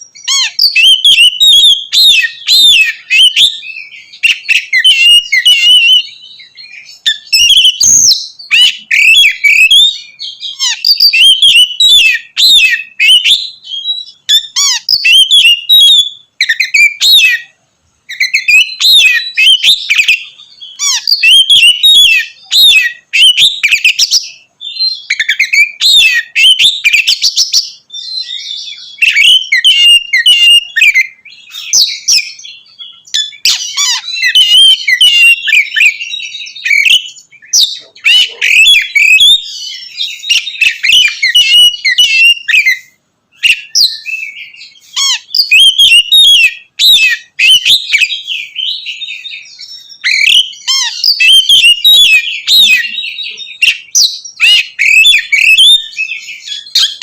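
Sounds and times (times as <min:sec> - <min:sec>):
magpie-robin singing: 0:00.0 - 0:57.0.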